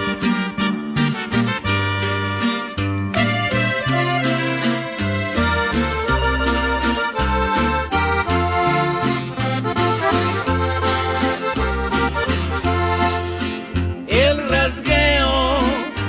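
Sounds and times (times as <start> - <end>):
accordion melody: 0.0 - 16.0
bass line: 0.0 - 16.0.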